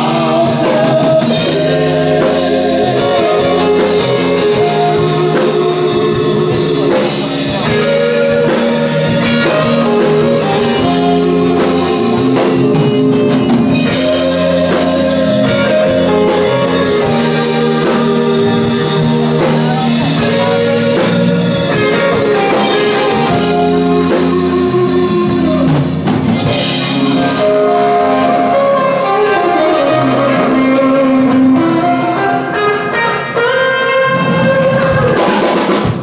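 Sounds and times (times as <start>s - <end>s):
drum kit drumming: 0.0s - 32.6s, 34.1s - 36.0s
amplified electric guitar: 0.0s - 36.0s.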